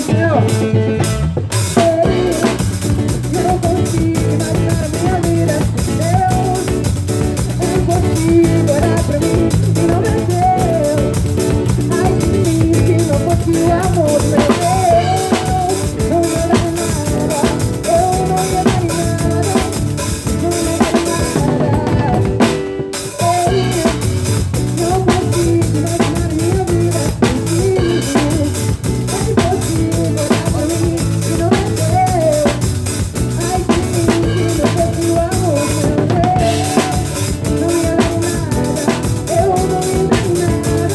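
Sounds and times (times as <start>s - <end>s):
band playing a song: 0.0s - 40.9s
drum kit beat: 0.0s - 40.9s.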